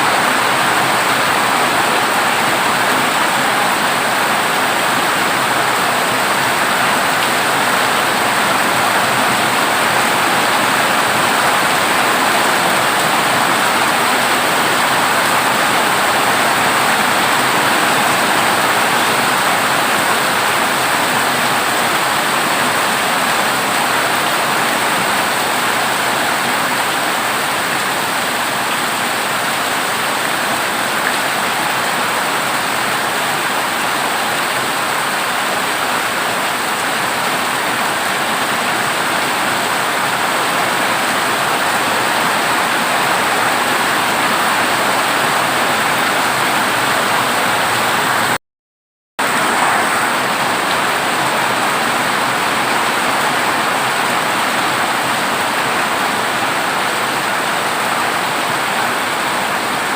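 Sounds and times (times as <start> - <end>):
heavy rain on a metal roof: 0.0 - 48.4, 49.2 - 59.9.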